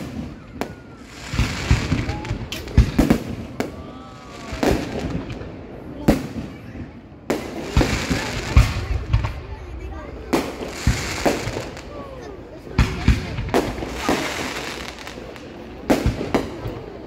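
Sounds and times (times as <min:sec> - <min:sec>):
fireworks crackling and hissing: 0:00.0 - 0:17.0.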